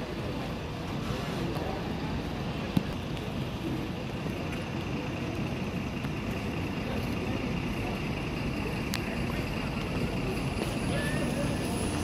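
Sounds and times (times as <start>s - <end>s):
bus approaching: 0.0s - 12.0s
road traffic: 0.0s - 12.0s.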